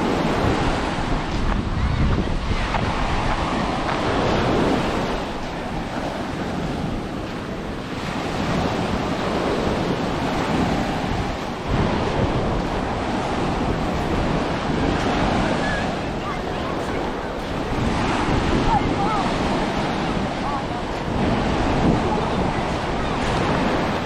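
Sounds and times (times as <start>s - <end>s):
sea surf washing ashore: 0.0s - 24.0s
wind rumbling on microphone: 0.0s - 24.0s.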